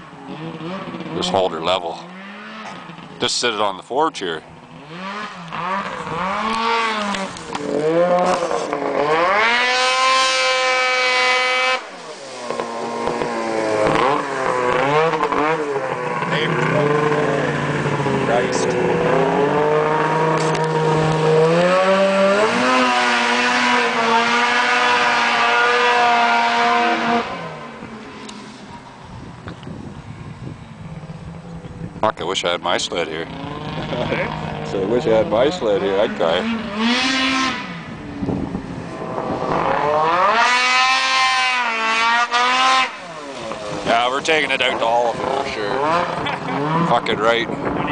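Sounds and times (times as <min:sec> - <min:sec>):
snowmobile engine revving: 0:00.0 - 0:28.9, 0:30.8 - 0:47.9.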